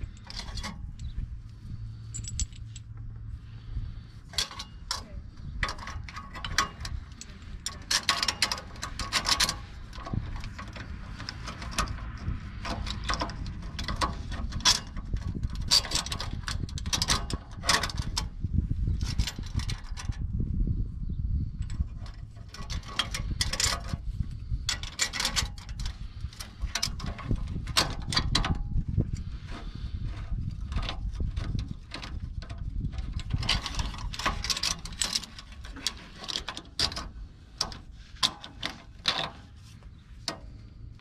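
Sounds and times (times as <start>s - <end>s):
metal clamp clinking and scraping: 0.0s - 20.3s, 21.4s - 40.8s.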